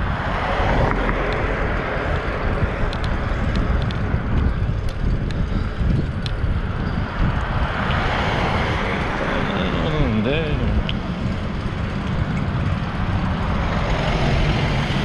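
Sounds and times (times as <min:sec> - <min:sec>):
bike rolling on asphalt: 0:00.0 - 0:15.0
wind buffeting microphone: 0:00.0 - 0:15.0.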